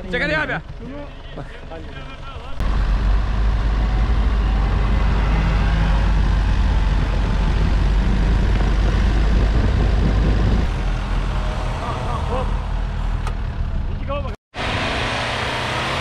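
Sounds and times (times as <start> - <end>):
off-road engines rumbling: 0.0 - 16.0.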